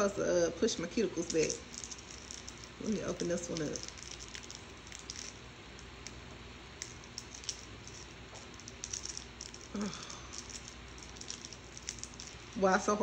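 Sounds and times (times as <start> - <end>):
plastic packet crinkling: 1.2 - 6.1, 6.8 - 12.7.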